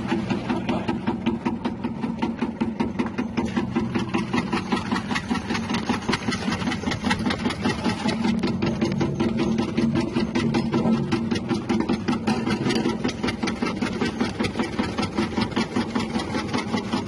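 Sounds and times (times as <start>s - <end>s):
motor hum: 0.0s - 17.0s
rotating blade clattering: 3.0s - 17.0s.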